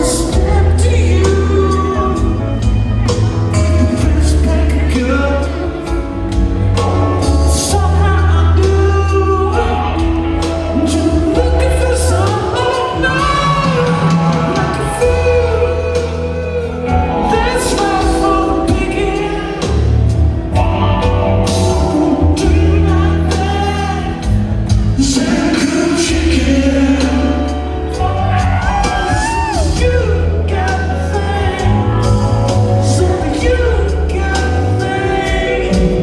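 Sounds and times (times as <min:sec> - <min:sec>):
deep bass notes: 0:00.0 - 0:36.0
drums: 0:00.0 - 0:36.0
person singing: 0:00.0 - 0:36.0.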